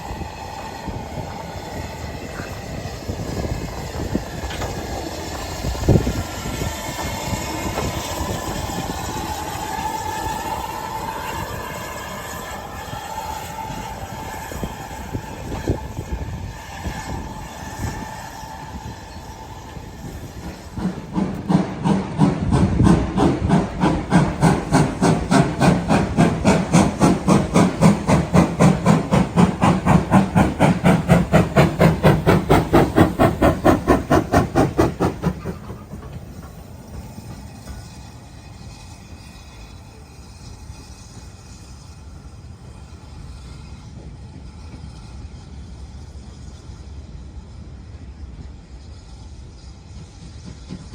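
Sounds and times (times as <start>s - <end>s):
locomotive exhaust chuffs: 0.0s - 50.9s
steam locomotive hissing: 0.0s - 50.9s.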